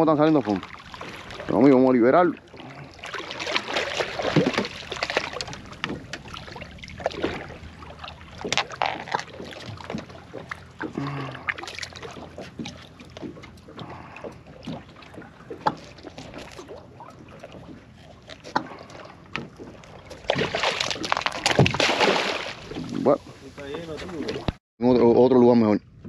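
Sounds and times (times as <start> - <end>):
handling knocks and clatter on boat: 0.0 - 26.0
water noise: 0.0 - 26.0
wind: 0.0 - 26.0.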